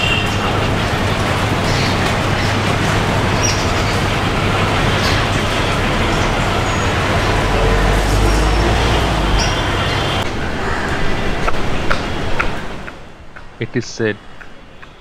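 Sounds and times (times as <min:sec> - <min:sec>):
deep vehicle rumble: 0:00.0 - 0:12.6
road traffic passing: 0:00.0 - 0:15.0.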